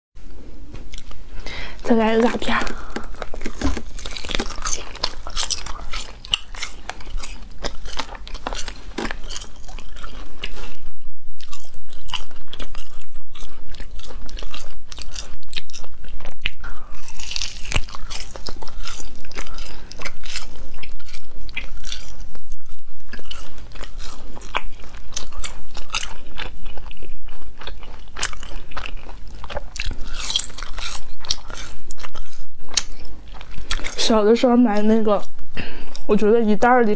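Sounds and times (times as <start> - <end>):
person crunching and chewing: 0.8 - 36.1.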